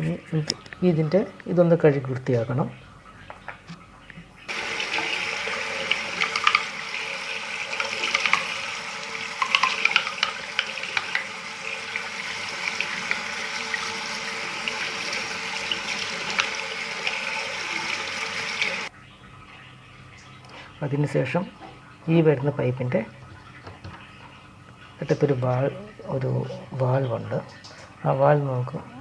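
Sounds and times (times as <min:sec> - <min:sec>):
water running from a tap: 0:00.0 - 0:29.0
water splashing: 0:00.0 - 0:29.0.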